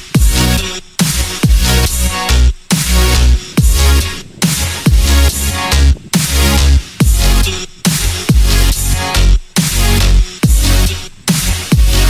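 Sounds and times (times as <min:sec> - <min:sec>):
dubstep electronic dance music: 0:00.0 - 0:12.0.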